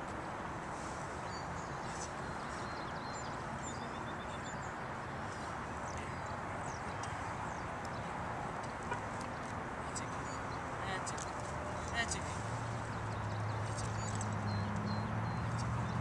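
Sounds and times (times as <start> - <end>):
outdoor background noise: 0.0 - 16.0
small birds chirping: 0.7 - 16.0.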